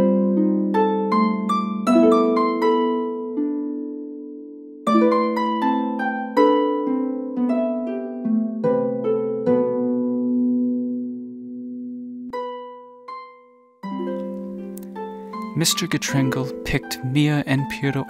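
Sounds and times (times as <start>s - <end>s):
harp playing: 0.0s - 18.0s.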